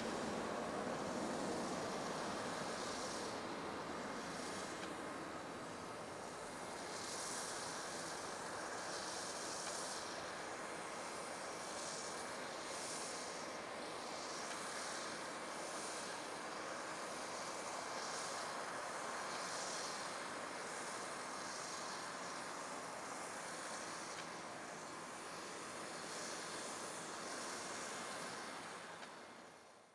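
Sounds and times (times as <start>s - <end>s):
distant jet engines: 0.0s - 29.9s.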